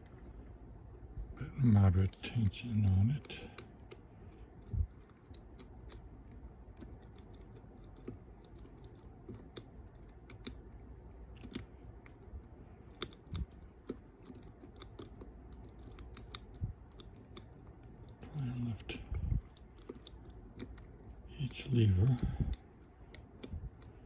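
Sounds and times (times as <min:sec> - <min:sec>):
lock picking metallic clicks: 0:02.4 - 0:24.0.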